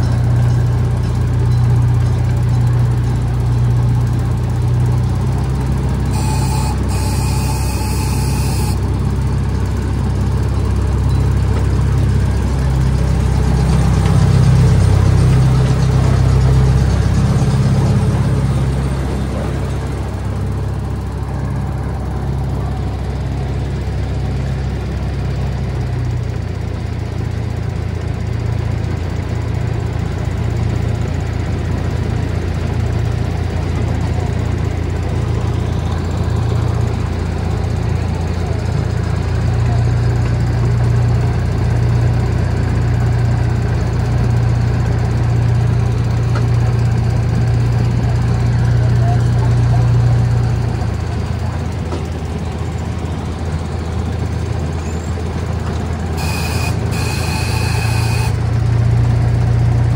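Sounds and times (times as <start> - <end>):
miniature train engine throbbing: 0.0 - 59.9.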